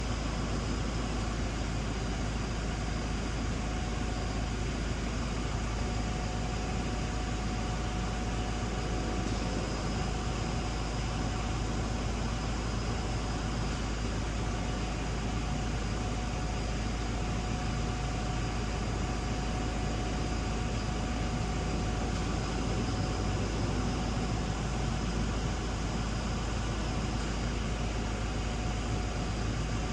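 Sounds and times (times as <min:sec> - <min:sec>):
idling vehicle hum and hiss: 0:00.0 - 0:29.9.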